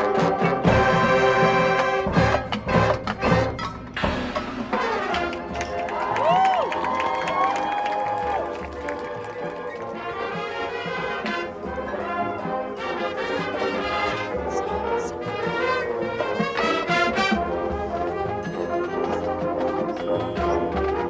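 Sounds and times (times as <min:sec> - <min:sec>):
brass playing melody: 0:00.0 - 0:06.6, 0:08.4 - 0:21.0
marching band percussion: 0:00.0 - 0:21.0.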